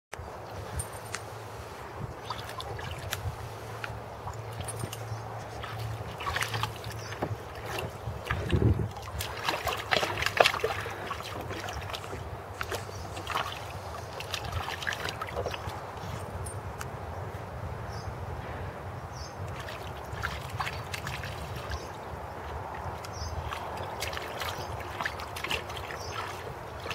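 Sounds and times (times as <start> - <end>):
dog splashing in water: 2.2 - 16.4, 19.5 - 26.9.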